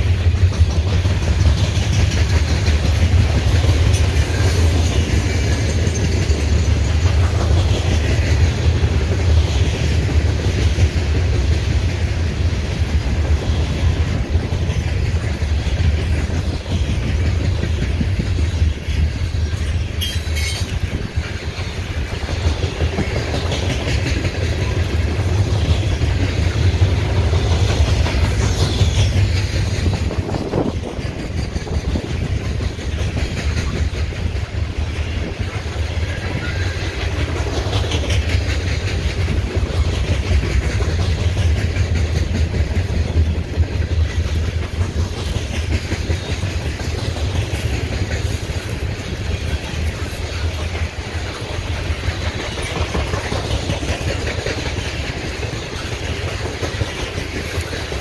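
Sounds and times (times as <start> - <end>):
train wheels rumbling on rail: 0.0 - 58.0
wheels clicking over rail joints: 0.0 - 58.0.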